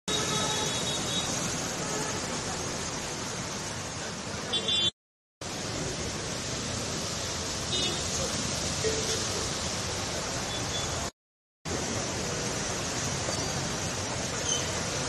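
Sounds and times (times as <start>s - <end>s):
vehicles splashing through water: 0.1s - 11.1s, 11.7s - 15.0s.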